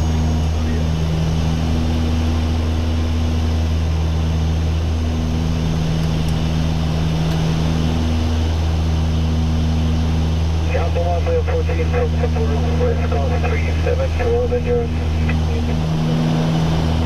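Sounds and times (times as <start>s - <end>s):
constant rushing noise: 0.0s - 17.0s
turboprop engines droning: 0.0s - 17.0s.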